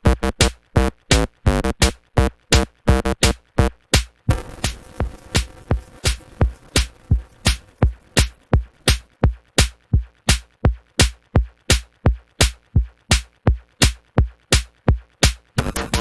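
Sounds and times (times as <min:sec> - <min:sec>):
drum machine kick beat: 0:00.0 - 0:16.0.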